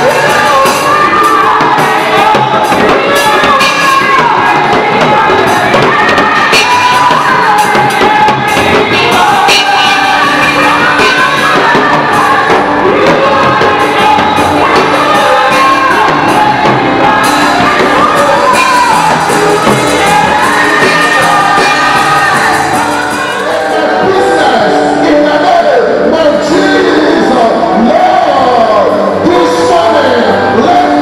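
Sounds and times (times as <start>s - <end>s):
amplified accompaniment with beat: 0.0s - 31.0s
congregation shouting: 0.0s - 31.0s
gospel choir singing: 0.0s - 31.0s.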